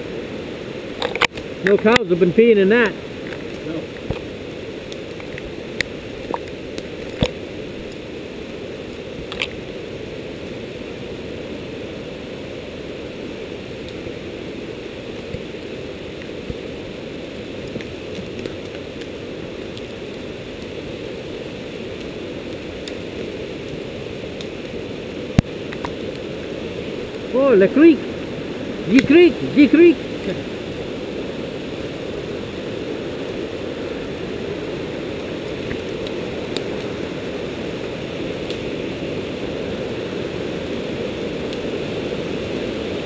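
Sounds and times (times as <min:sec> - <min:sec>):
creek rushing: 0:00.0 - 0:43.0.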